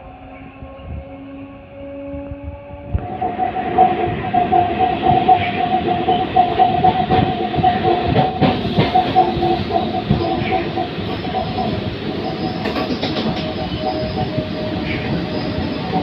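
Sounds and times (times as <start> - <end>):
train high hum: 0.0 - 16.0.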